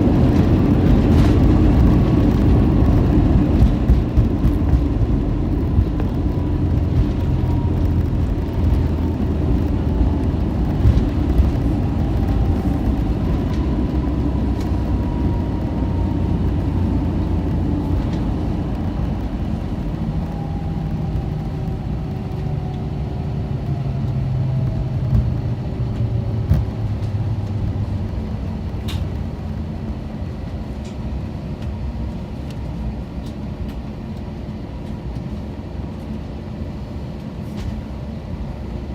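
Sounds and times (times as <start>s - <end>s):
jet cabin rumble: 0.0s - 38.9s
jet engines whining down: 0.0s - 38.9s.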